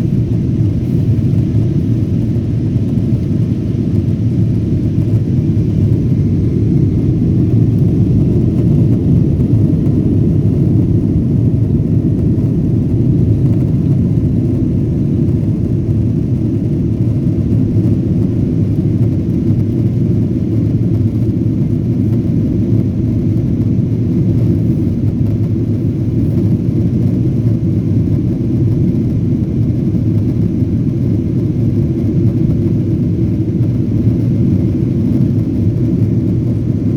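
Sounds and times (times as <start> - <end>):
jet engine cabin rumble: 0.0 - 36.9.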